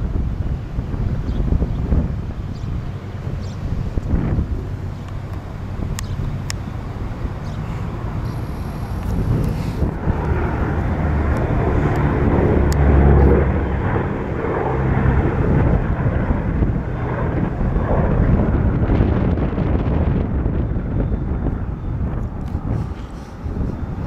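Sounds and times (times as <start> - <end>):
propeller plane passing overhead: 0.0 - 24.0
radial engines droning: 2.2 - 24.0.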